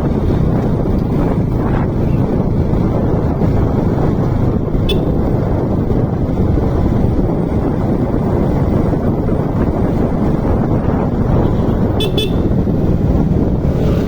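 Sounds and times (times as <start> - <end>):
motorcycle engine: 0.0 - 14.0
road noise: 0.0 - 14.0
wind buffeting microphone: 0.0 - 14.0.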